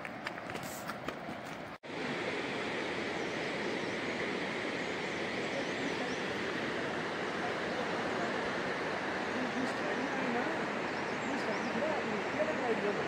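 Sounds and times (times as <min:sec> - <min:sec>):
fast river rushing: 0:00.2 - 0:13.0.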